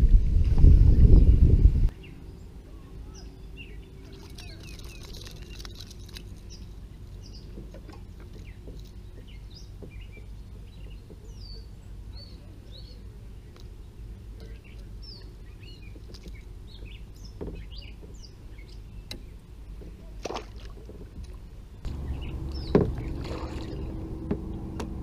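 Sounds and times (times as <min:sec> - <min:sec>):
birds chirping: 0:01.2 - 0:20.2, 0:21.0 - 0:25.0.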